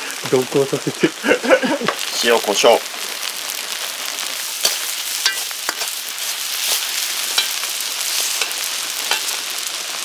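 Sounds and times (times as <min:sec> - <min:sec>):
rice sizzling in a pan: 0:00.0 - 0:10.0.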